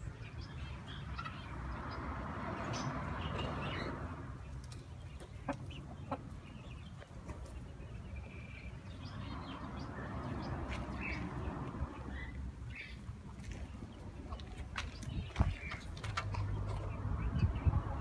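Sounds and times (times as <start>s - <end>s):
chickens clucking: 0.6s - 18.0s.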